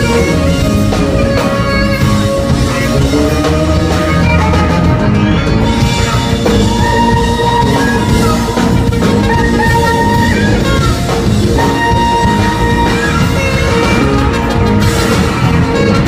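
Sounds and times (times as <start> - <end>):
lead instrument holding long notes: 0.0 - 16.0
live rock band playing: 0.0 - 16.0.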